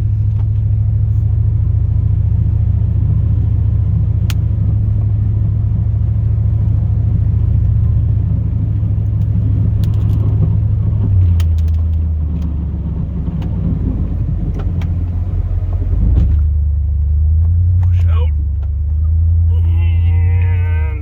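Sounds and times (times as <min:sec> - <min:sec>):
truck engine droning in cab: 0:00.0 - 0:21.0.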